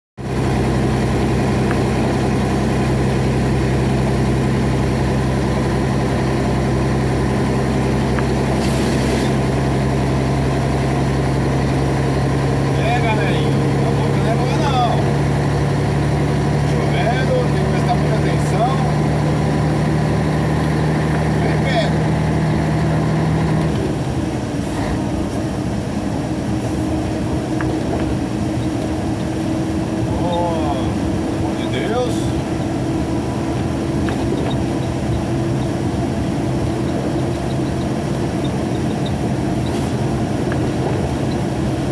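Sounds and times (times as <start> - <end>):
truck engine running: 0.2 - 41.9.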